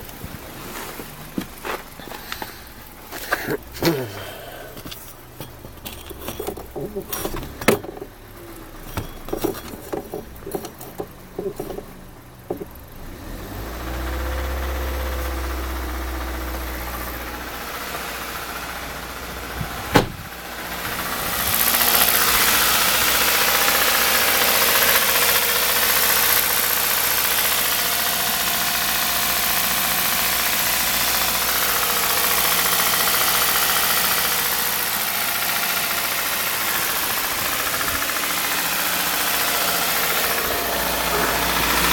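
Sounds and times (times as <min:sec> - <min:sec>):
car engine starting and running: 0:00.0 - 0:41.9.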